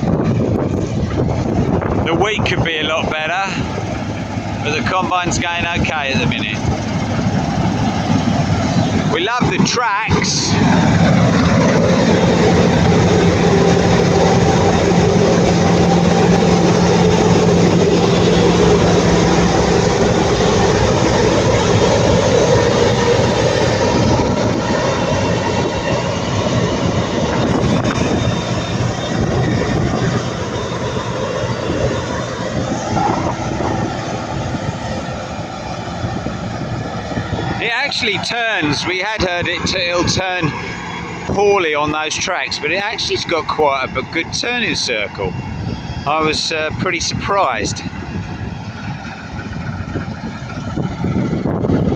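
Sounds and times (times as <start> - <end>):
combine harvester drone: 0.0 - 51.9
steady low hum: 0.0 - 51.9.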